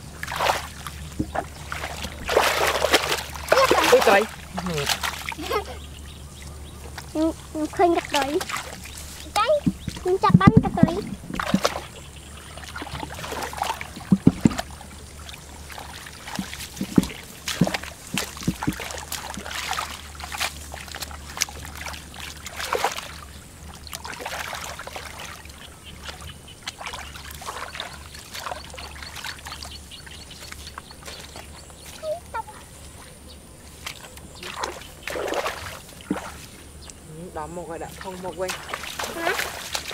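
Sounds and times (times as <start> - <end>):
hands splashing in shallow water: 0.0 - 5.6, 8.0 - 10.1, 10.9 - 32.2, 33.7 - 36.6, 37.9 - 39.9
water dripping: 0.0 - 33.0, 33.8 - 39.9.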